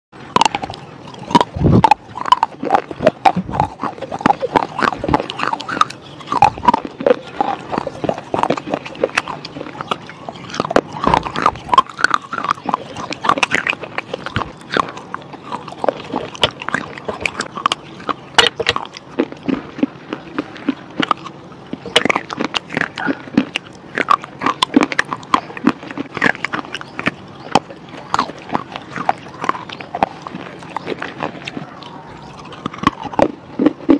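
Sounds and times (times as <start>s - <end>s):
crunching chewing: 0.2s - 33.9s
wet mouth sounds: 0.3s - 33.9s.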